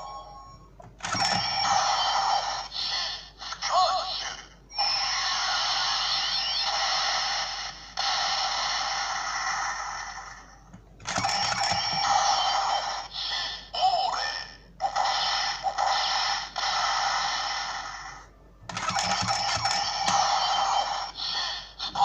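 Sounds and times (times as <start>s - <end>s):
toy belt electronic sound effects: 0.0s - 22.0s.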